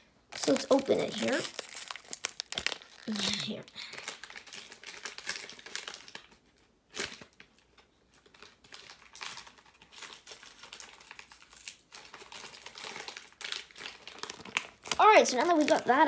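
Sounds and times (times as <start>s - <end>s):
wrapper crinkling: 0.3s - 16.0s
wrapper ripping: 0.3s - 16.0s.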